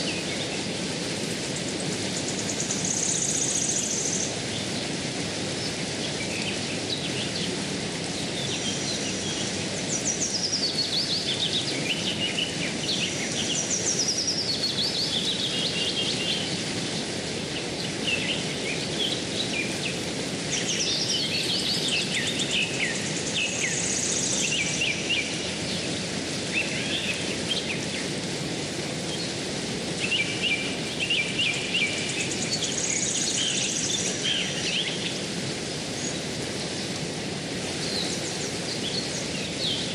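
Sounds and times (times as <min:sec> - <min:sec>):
birds singing: 0:00.0 - 0:28.3, 0:29.1 - 0:37.0, 0:37.6 - 0:39.9
stream water flowing: 0:00.0 - 0:39.9.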